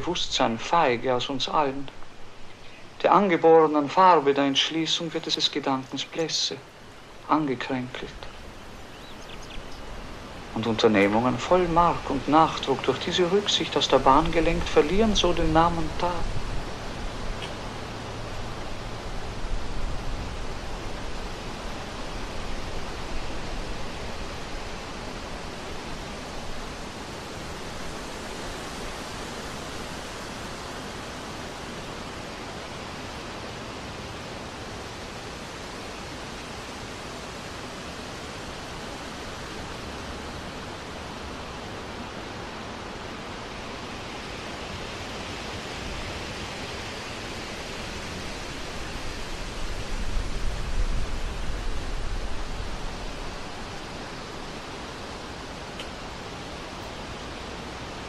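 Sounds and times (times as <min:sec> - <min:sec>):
wind rushing through trees: 0:00.0 - 0:58.0.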